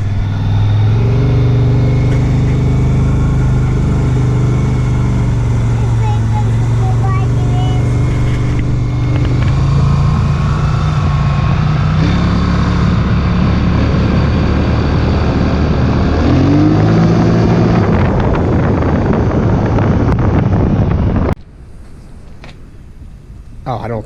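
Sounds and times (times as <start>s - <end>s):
wind rush: 0.0s - 23.7s
atv engine running: 0.0s - 24.0s.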